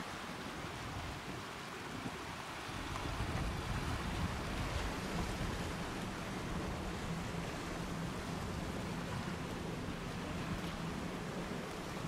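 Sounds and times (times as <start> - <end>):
wind: 0.0 - 12.0
distant motorboat engine hum: 0.1 - 12.0.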